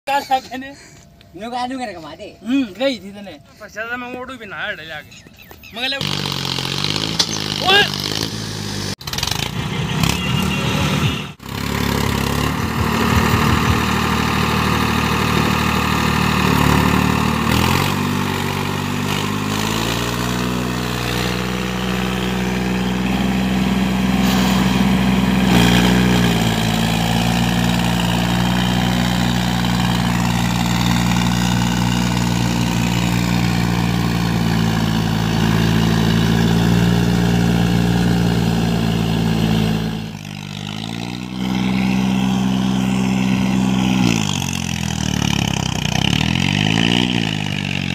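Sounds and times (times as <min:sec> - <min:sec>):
tractor diesel engine: 0:00.1 - 0:47.9.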